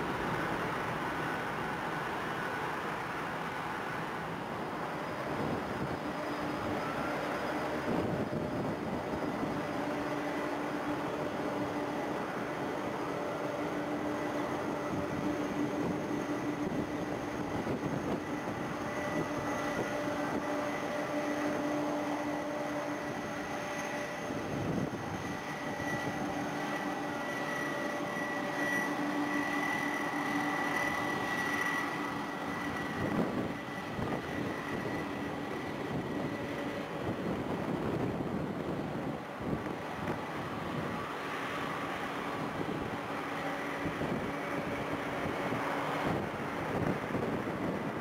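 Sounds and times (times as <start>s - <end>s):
jet engine drone: 0.0s - 48.0s
rushing noise: 0.0s - 48.0s.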